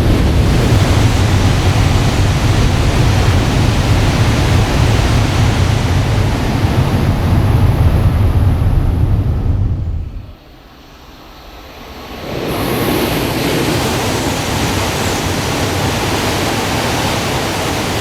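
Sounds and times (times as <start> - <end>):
train rushing past at speed: 0.0 - 18.0.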